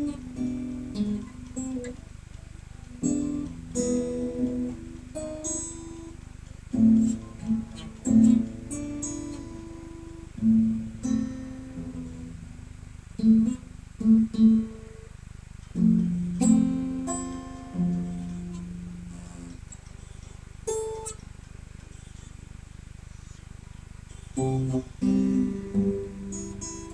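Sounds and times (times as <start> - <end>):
acoustic guitar played slowly: 0.0 - 26.9.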